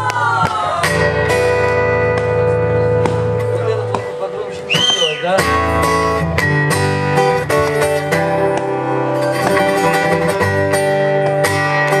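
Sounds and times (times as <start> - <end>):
acoustic guitar strumming chords: 0.9 - 12.0.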